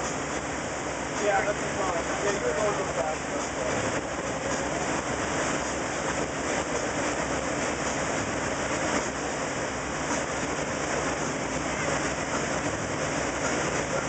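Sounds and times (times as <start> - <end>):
motorboat engine droning: 0.0 - 14.0
wake water churning: 0.0 - 14.0.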